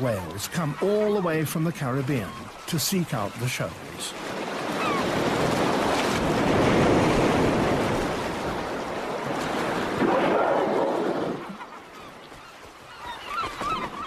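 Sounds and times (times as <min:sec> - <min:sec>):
sea water churning and splashing: 0:00.0 - 0:14.0.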